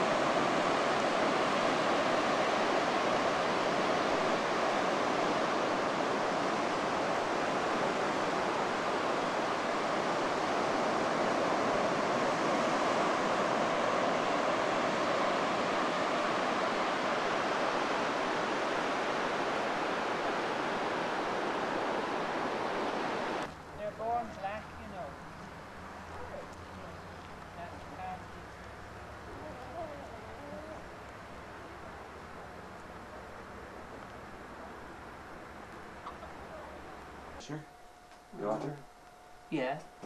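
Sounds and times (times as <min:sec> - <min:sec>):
surf breaking on a beach: 0:00.0 - 0:37.4.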